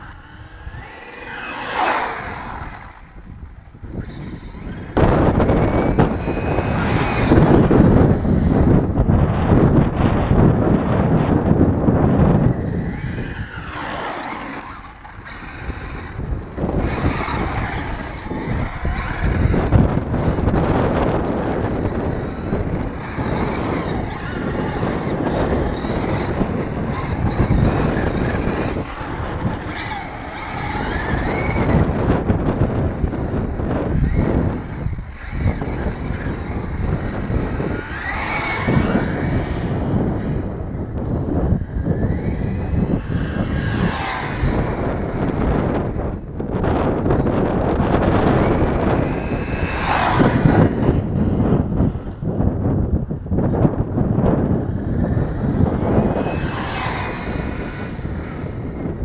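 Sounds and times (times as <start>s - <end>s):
electric motor whining: 0.0s - 59.0s
wind noise on microphone: 0.0s - 59.0s.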